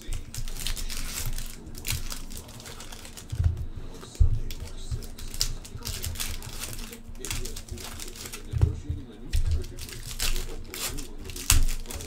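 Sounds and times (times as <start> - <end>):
foil pack crinkling: 0.0 - 12.0.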